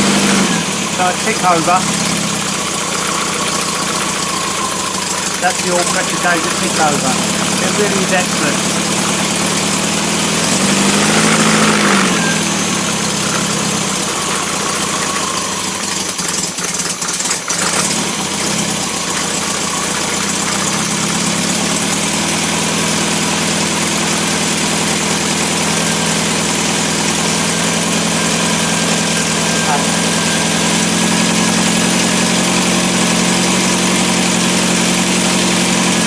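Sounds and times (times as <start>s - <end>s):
engine idling: 0.0s - 36.0s
engine revving blip: 0.0s - 36.0s.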